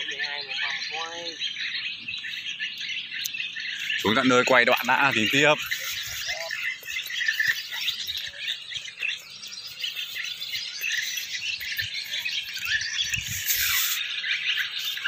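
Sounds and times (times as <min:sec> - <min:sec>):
swallows twittering: 0:00.0 - 0:15.0.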